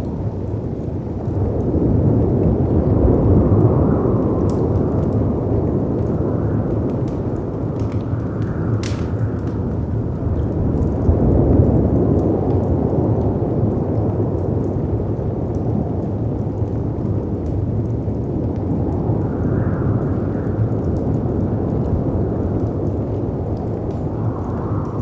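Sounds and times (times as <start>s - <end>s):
faint fireplace crackles: 0.0s - 25.0s
wind roar: 0.0s - 25.0s.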